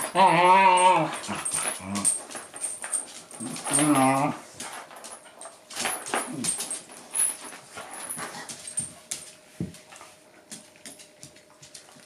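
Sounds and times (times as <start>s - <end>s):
dogs scuffling: 0.0s - 12.0s.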